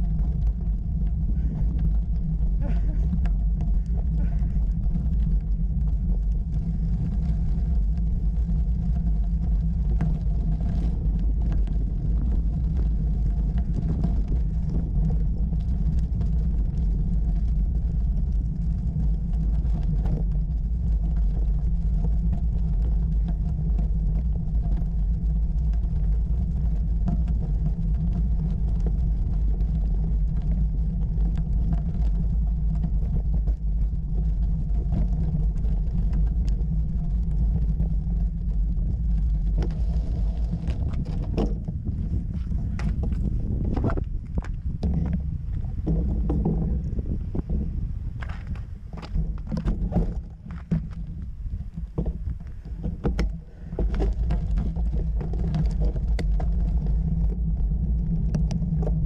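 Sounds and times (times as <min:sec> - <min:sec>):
bicycle tyres rumbling on gravel: 0:00.0 - 0:59.0
stones rattling and crunching: 0:00.0 - 0:59.0.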